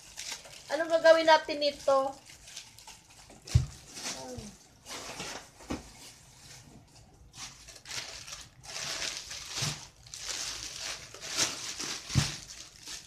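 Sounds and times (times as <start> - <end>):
plastic bags crinkling: 0.0 - 5.6, 6.2 - 13.0.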